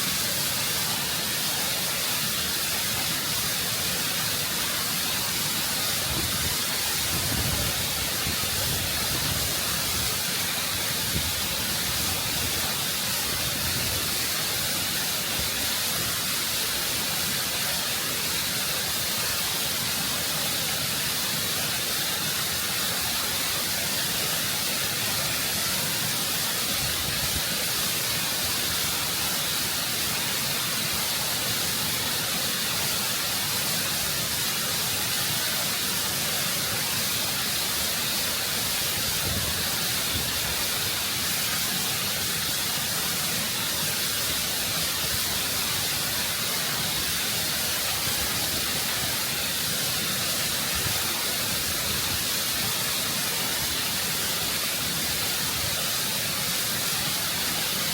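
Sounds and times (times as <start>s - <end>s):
waterfall roaring over rock: 0.0s - 57.9s.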